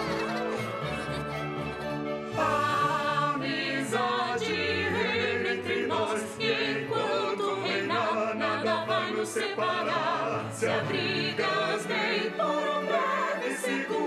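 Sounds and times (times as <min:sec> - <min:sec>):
choir singing: 0:00.0 - 0:14.0.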